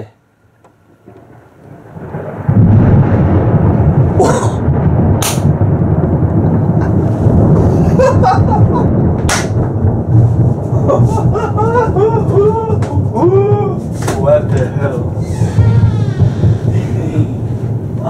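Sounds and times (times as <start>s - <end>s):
rumbling thunder: 0.9s - 18.0s.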